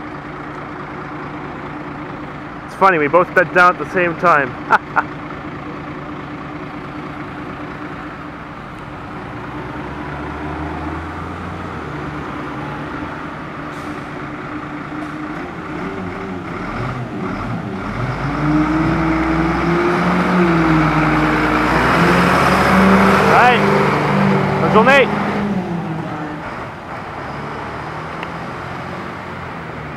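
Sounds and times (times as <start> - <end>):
garbage truck diesel engine: 0.0 - 29.9.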